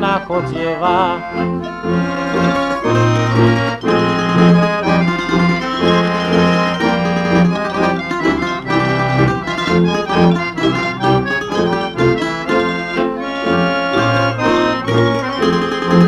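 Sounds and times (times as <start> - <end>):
accordion playing chords: 0.0 - 16.0
bass notes on a steady beat: 0.0 - 16.0.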